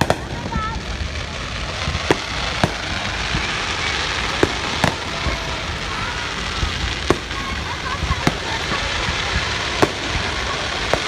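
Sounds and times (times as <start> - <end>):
fireworks bangs: 0.0 - 11.0
steady hiss: 0.0 - 11.0.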